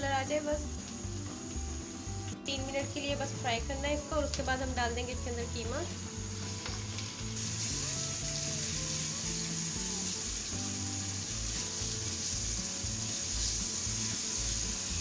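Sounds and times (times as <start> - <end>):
low background music: 0.0 - 15.0
meat sizzling in hot oil: 0.0 - 15.0.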